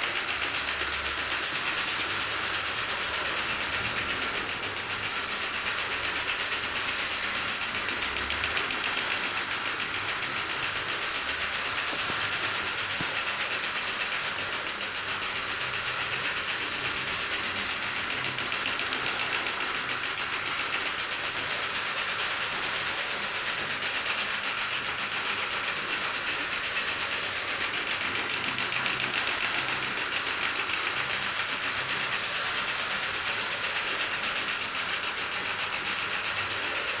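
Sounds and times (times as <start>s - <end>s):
steam locomotive chuffing: 0.0s - 37.0s.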